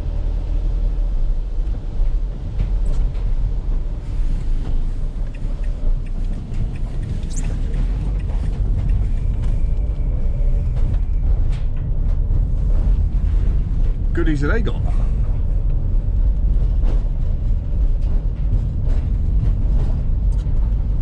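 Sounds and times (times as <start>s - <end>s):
van engine and road rumble: 0.0s - 21.0s.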